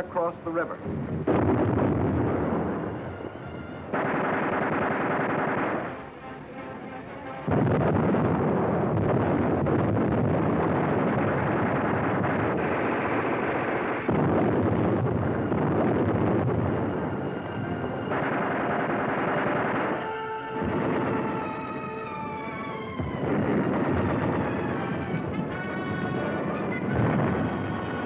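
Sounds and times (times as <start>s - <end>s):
artillery shells exploding: 0.9s - 6.2s, 7.2s - 28.0s
gunfire: 1.2s - 6.2s, 7.4s - 28.0s.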